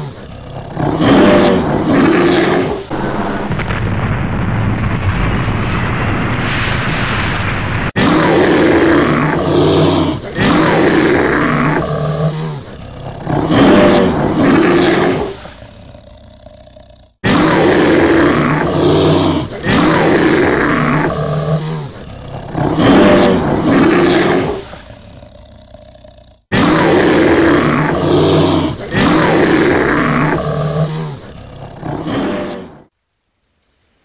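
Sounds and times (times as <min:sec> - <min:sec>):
monster roars: 0:00.0 - 0:03.0, 0:08.0 - 0:32.9.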